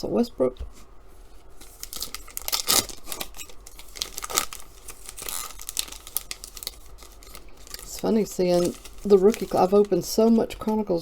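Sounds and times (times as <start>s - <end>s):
cards and wrapper crinkling: 1.3s - 11.0s.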